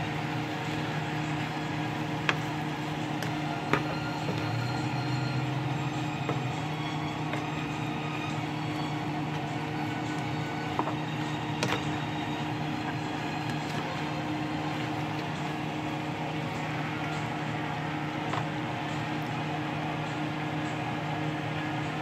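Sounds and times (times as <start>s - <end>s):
noodles stirred in a frying pan: 0.0s - 19.6s
mechanical hum: 0.0s - 22.0s.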